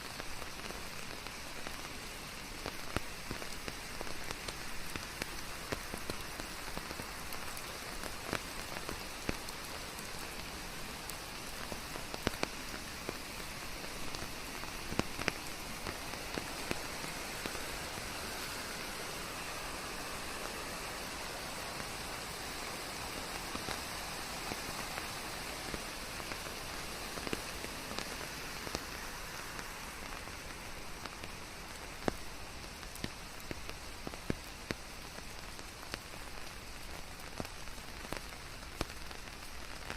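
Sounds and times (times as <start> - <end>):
raindrops on leaves: 0.0 - 39.9
steady rain hiss: 0.0 - 39.9.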